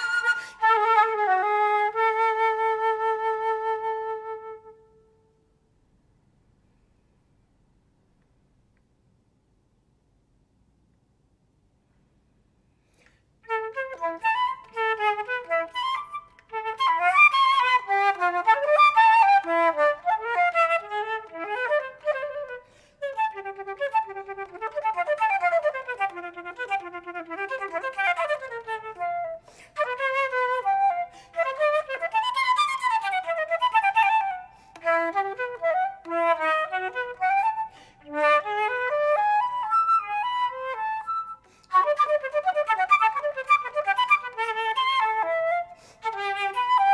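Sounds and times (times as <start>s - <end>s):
flute playing: 0.0s - 5.2s, 13.4s - 46.9s.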